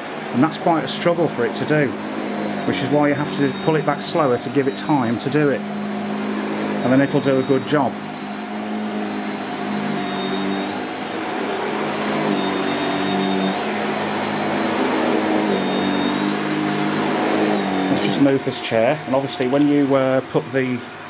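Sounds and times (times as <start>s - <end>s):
vacuum cleaner running on carpet: 0.0s - 21.0s.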